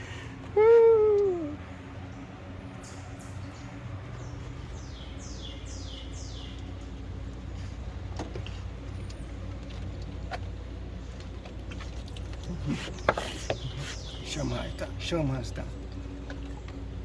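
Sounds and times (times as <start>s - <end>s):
steady low hum: 0.0s - 17.0s
songbird chirping: 0.6s - 17.0s.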